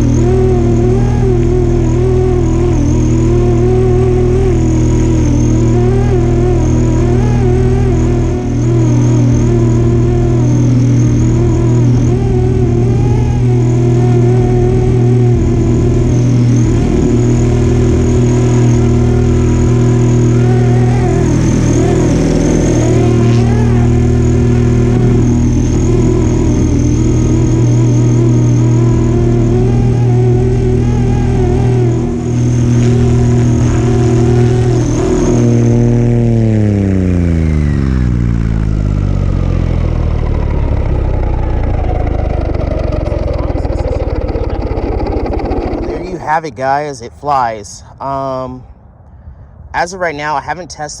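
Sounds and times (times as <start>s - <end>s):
model helicopter motor and rotor hum: 0.0s - 46.4s.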